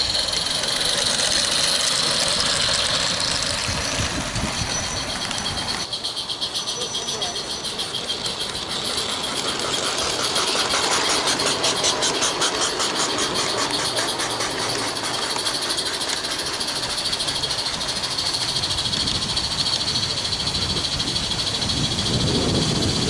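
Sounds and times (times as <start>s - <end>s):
small steam locomotive chuffing: 0.0s - 23.0s.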